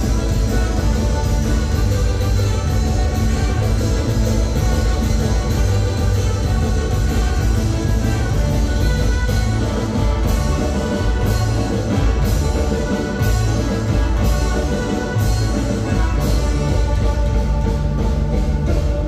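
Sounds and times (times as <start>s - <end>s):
live band dance music: 0.0s - 19.0s.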